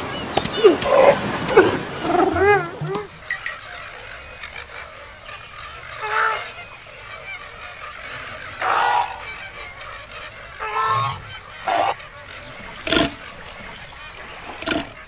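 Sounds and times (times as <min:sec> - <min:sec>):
bird honking calls: 0:00.0 - 0:15.0.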